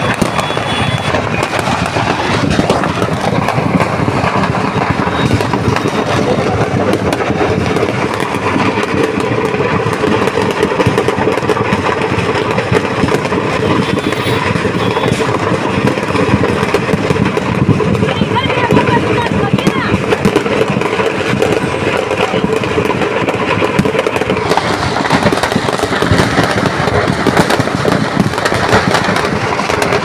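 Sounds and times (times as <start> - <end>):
fireworks burning with crackling: 0.0 - 30.0.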